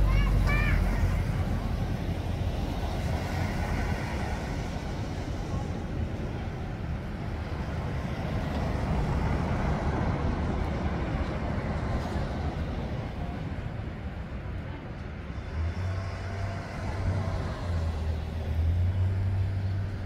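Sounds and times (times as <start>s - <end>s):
low rumble of passing vehicles: 0.0s - 20.0s.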